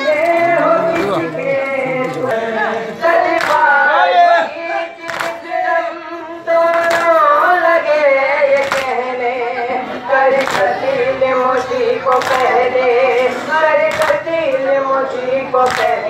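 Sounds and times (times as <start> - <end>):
crowd chanting a lament: 0.0 - 16.0.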